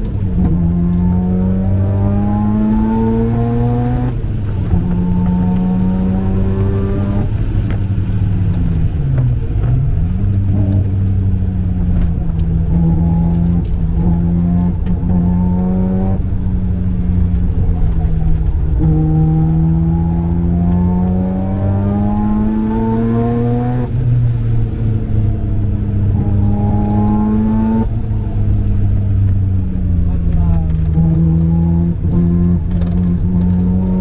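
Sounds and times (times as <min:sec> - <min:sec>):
rotary engine revving through gears: 0:00.0 - 0:11.0, 0:11.7 - 0:25.1, 0:26.0 - 0:29.1, 0:30.6 - 0:34.0.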